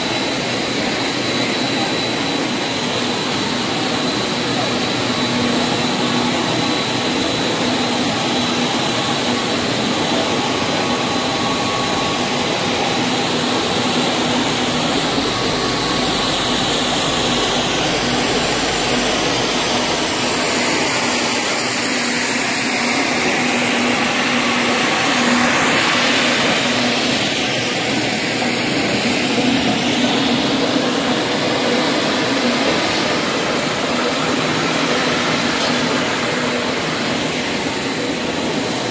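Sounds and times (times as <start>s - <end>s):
high whine: 0.0s - 38.9s
whir of motors and rollers: 0.0s - 38.9s.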